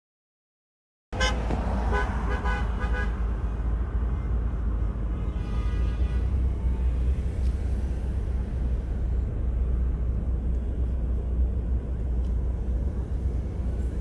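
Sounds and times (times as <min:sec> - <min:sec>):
vehicle driving rumble: 0:01.2 - 0:14.0.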